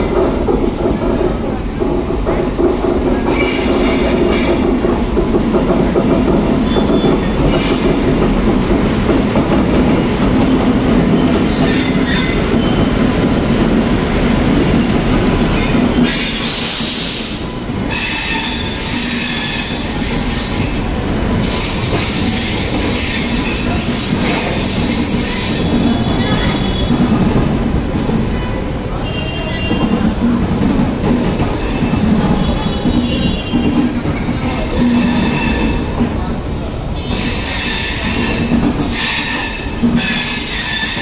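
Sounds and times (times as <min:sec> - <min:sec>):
train coaches rumbling past: 0:00.0 - 0:41.0.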